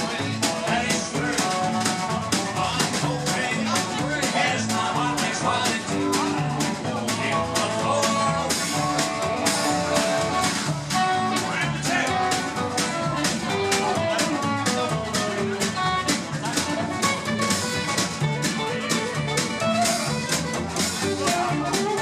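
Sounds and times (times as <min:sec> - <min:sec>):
country band playing: 0:00.0 - 0:22.0.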